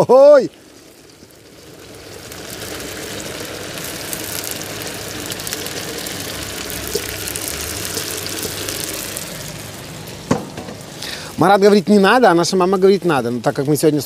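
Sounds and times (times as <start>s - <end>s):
potatoes sizzling in a pan: 0.0s - 14.0s.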